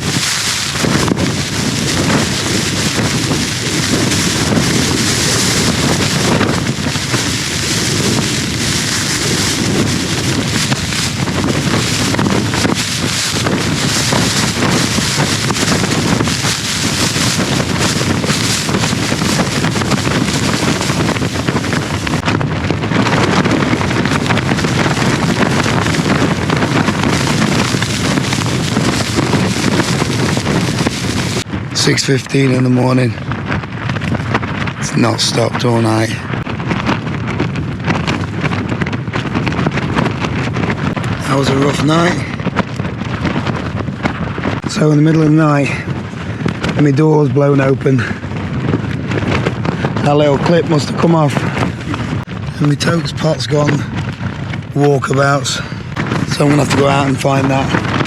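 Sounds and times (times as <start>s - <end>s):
tent fabric flapping: 0.0s - 31.9s, 33.2s - 46.9s, 47.5s - 58.0s
gusting wind: 0.0s - 58.0s
wind noise on microphone: 0.0s - 58.0s.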